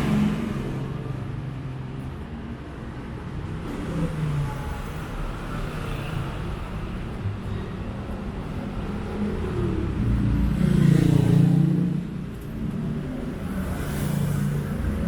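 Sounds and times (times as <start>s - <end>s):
road noise hum: 0.0s - 15.0s
vehicle engines passing: 0.0s - 15.0s.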